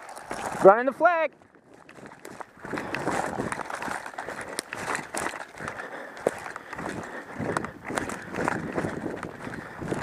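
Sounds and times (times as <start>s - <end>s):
running footsteps: 0.0s - 10.0s
gear rustling: 1.8s - 10.0s.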